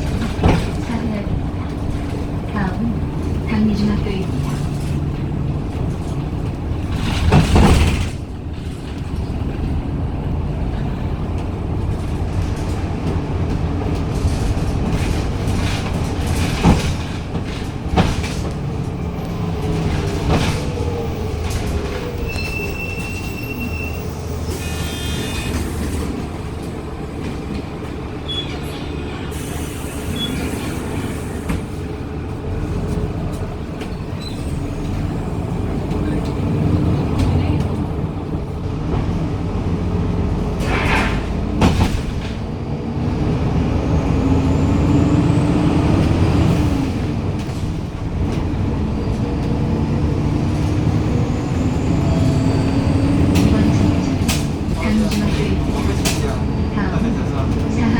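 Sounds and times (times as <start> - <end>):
bus engine running: 0.0 - 57.9.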